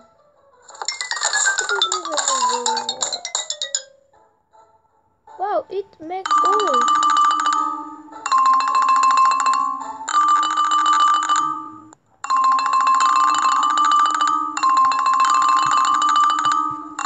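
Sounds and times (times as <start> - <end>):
xylophone-like mallet tune: 0.8 - 4.0, 6.2 - 17.0.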